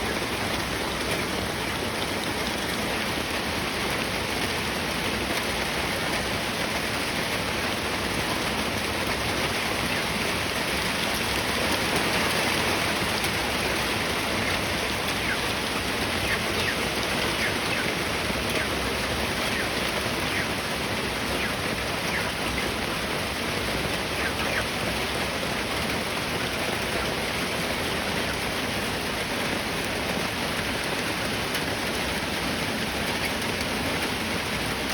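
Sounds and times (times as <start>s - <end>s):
rushing falling water: 0.0s - 34.9s.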